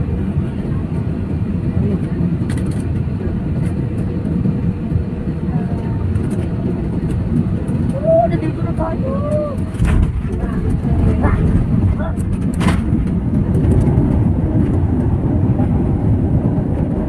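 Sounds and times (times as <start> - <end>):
faint passenger voices: 0.0 - 16.9
airliner cabin rumble: 0.0 - 17.0.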